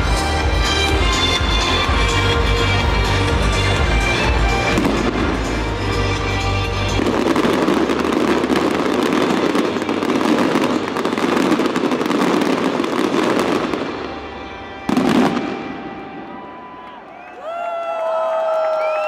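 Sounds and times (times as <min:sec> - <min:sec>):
fireworks cracking and banging: 0:00.0 - 0:16.9.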